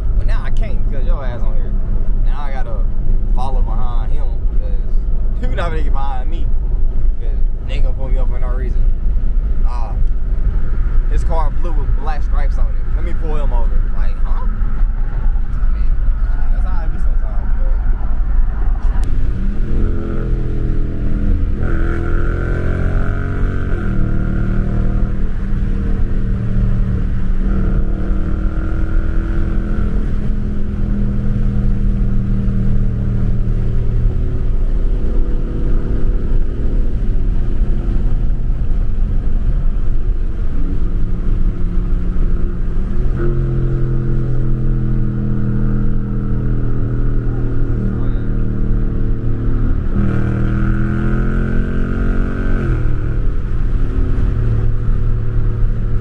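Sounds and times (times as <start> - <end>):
car engine cruising: 0.0 - 56.0
road noise: 0.0 - 56.0.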